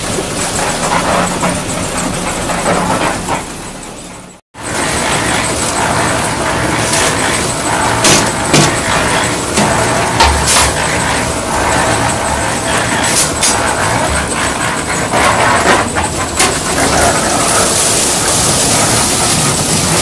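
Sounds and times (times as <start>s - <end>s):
concrete mixer engine running: 0.0s - 20.0s
drum churning gravel: 0.0s - 20.0s
knocks and clatter: 0.0s - 20.0s.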